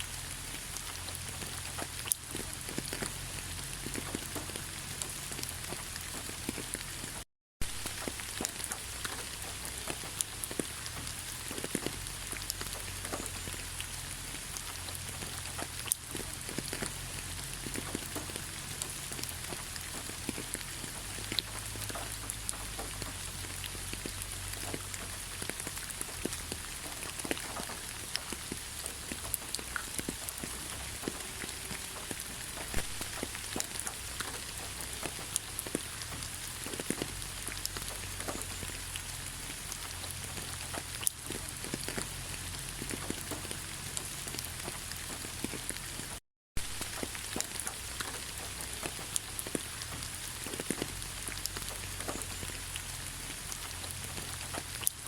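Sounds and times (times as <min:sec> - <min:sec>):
raindrops tapping close by: 0:00.0 - 0:55.0
steady rain hiss: 0:00.0 - 0:55.0.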